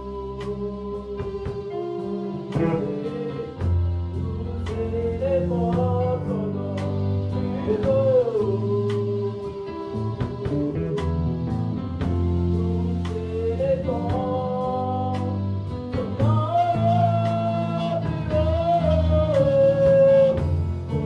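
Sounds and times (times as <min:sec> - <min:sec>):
band accompaniment: 0:00.0 - 0:21.0.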